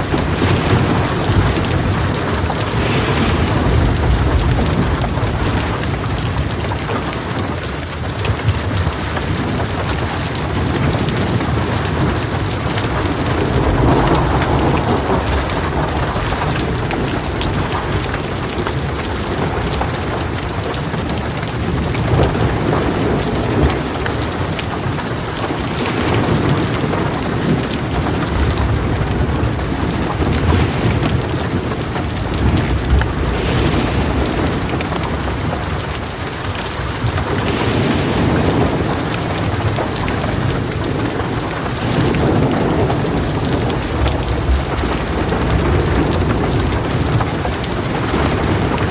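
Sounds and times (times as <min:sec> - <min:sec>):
heavy rain on a metal roof: 0:00.0 - 0:48.9
thunder rumbling: 0:00.0 - 0:48.9.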